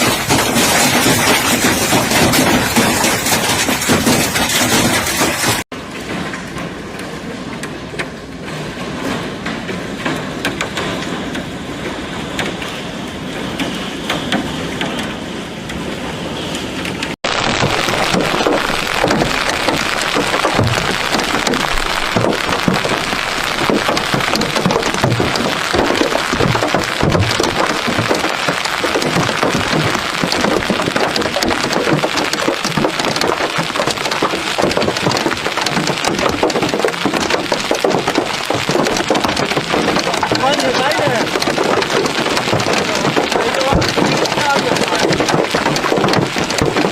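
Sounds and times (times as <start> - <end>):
hail and heavy rain pounding: 0.0 - 46.9.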